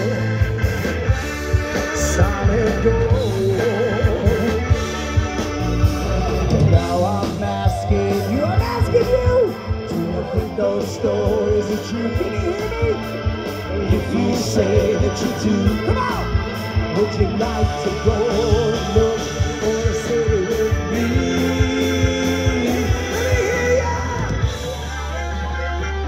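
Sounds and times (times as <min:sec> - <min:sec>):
drums with cymbals: 0:00.0 - 0:25.1
bass: 0:00.0 - 0:26.0
electric guitar: 0:00.0 - 0:26.0
keyboards: 0:00.0 - 0:26.0
person singing: 0:01.6 - 0:04.9, 0:06.1 - 0:25.2.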